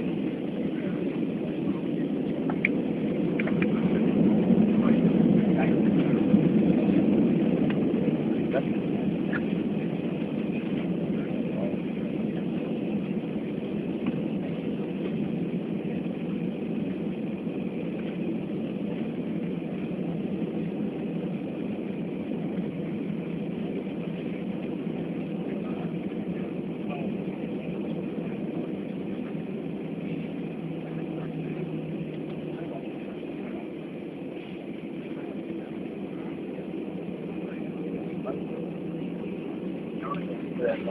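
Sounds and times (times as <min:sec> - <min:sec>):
airliner cabin engine noise: 0:00.0 - 0:40.9.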